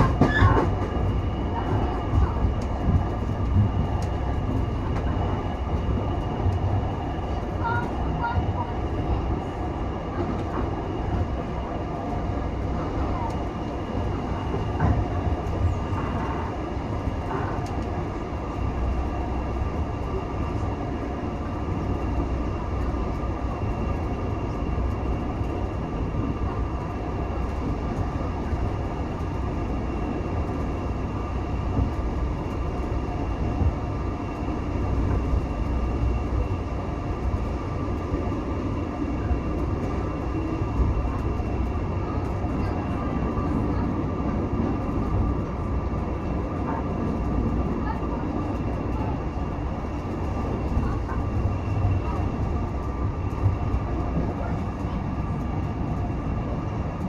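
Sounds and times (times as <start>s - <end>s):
wheels rumbling on track: 0.0s - 57.0s.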